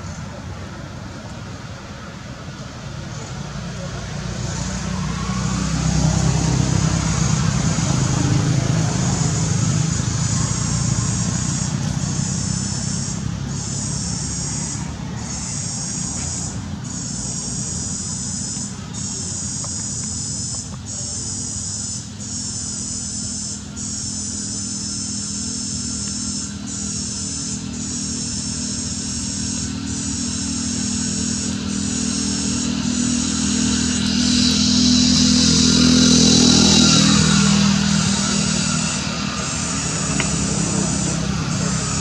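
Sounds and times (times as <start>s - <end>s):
motor vehicle passing: 0.0s - 42.0s
low motor hum: 2.3s - 42.0s
high-pitched insect drone: 3.1s - 42.0s.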